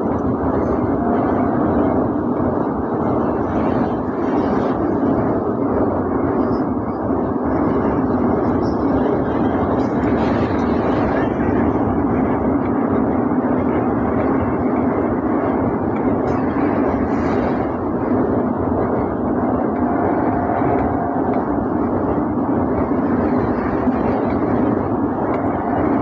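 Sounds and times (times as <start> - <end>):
train crossing steel bridge: 0.0 - 26.0.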